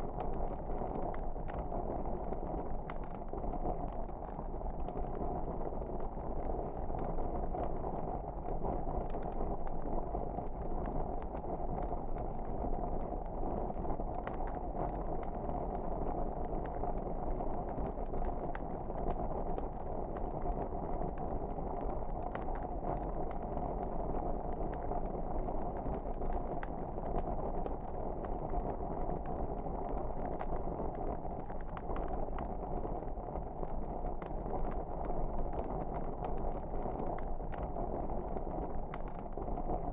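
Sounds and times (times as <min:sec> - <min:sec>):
fire crackling and popping: 0:00.0 - 0:39.9
log fire burning: 0:00.0 - 0:39.9.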